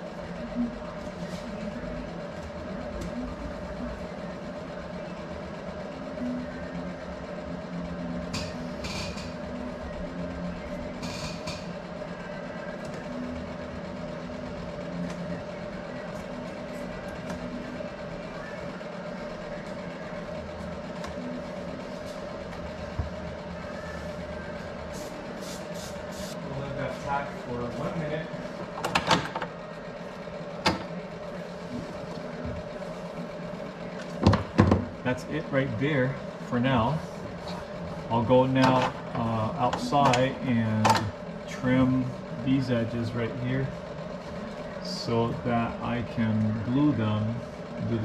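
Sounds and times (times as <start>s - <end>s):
machine hum: 0.0s - 48.0s.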